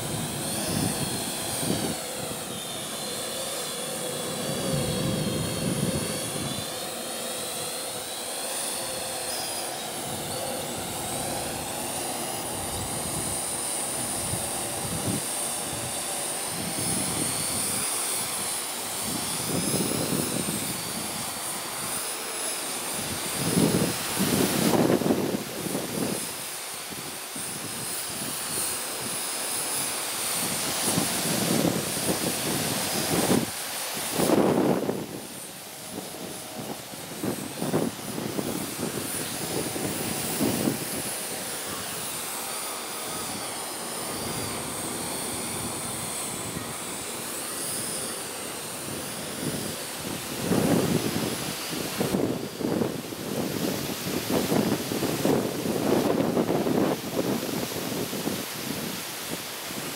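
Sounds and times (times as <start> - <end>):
drone rotors whining: 0.0 - 59.8
wind buffeting microphone: 0.0 - 59.9.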